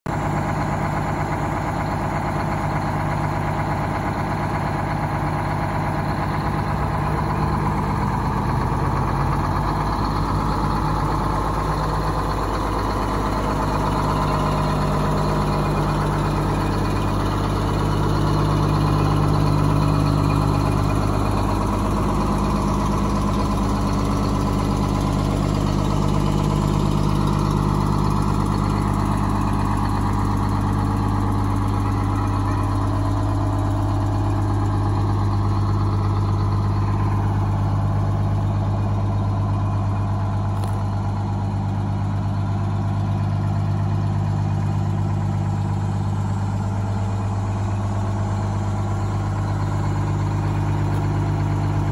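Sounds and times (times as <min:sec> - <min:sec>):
fire engine idling: 0:00.1 - 0:51.9.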